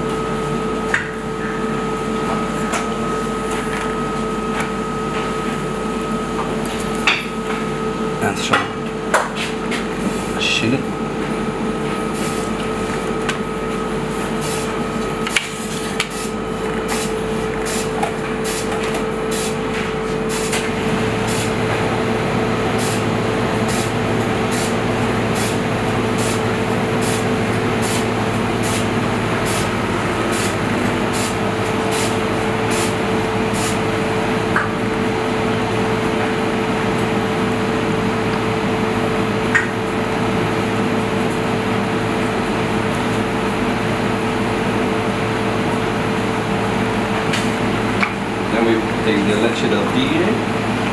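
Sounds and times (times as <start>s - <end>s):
kitchen machinery humming: 0.0s - 50.9s.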